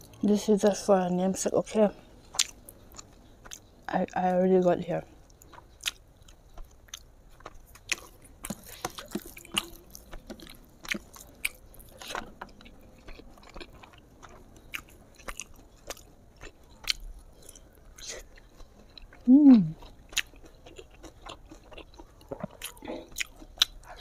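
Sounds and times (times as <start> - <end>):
close chewing and biting: 2.2 - 4.3, 5.1 - 24.0.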